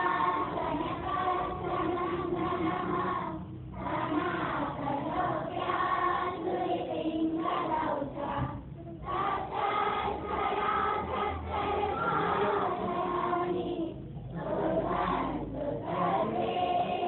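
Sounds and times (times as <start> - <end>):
children singing a prayer: 0.0 - 17.0.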